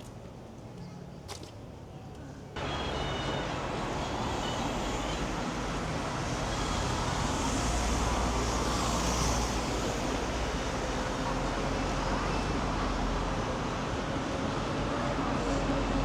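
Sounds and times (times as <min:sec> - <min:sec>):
passing vehicles rushing: 0:02.6 - 0:16.0.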